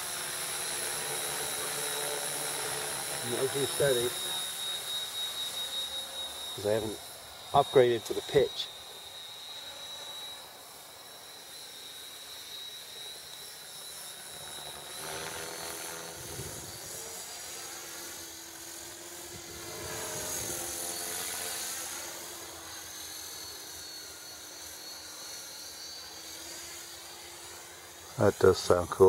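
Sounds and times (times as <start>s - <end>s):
model helicopter motor whine: 0.0s - 29.0s.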